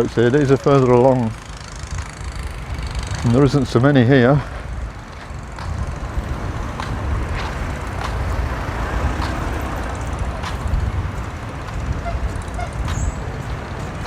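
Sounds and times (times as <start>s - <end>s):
road traffic rumbling: 0.0s - 14.0s.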